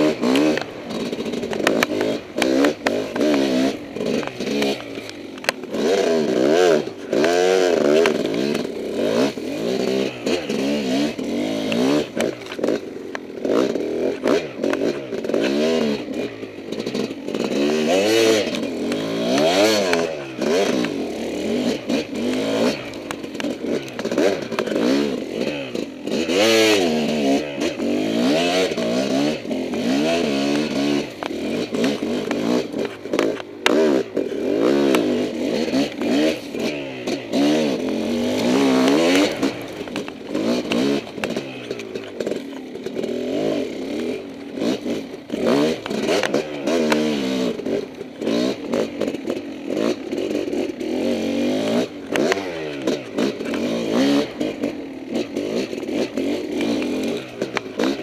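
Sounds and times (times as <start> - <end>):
bike clattering and scraping: 0.0 - 58.0
dirt bike engine revving: 0.0 - 58.0.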